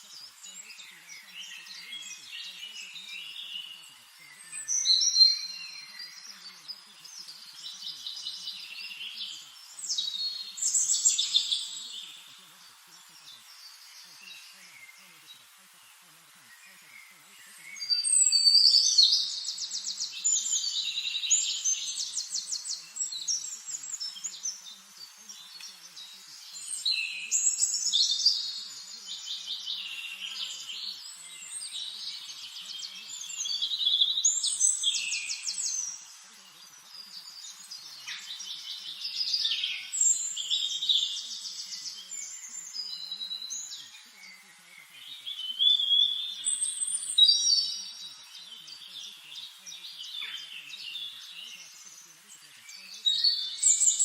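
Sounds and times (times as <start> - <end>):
birds singing: 0.0 - 54.0.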